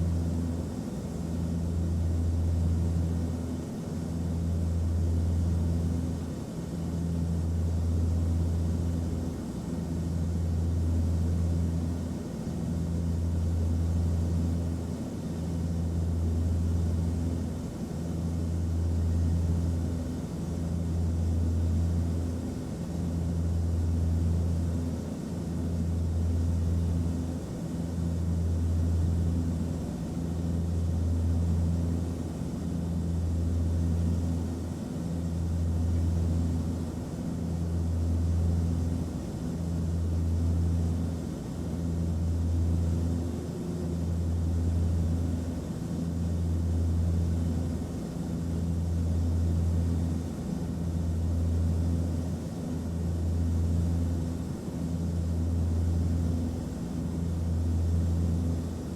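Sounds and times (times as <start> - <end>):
steady low cabin rumble: 0.0 - 58.9.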